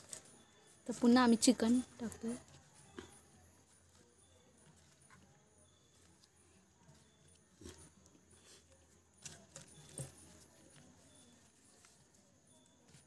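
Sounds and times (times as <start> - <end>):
faint knocks and rustles: 1.8 - 13.0.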